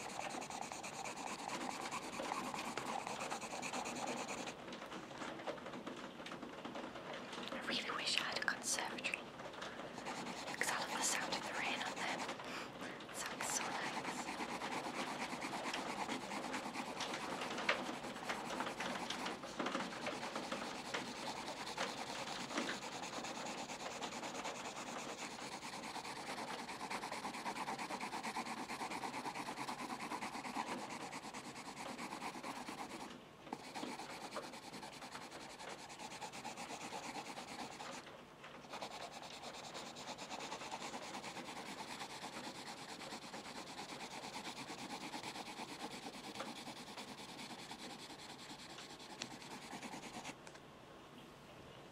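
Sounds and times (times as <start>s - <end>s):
pencil scratching on paper: 0.0s - 4.6s, 10.0s - 12.3s, 13.1s - 38.0s, 38.6s - 50.4s.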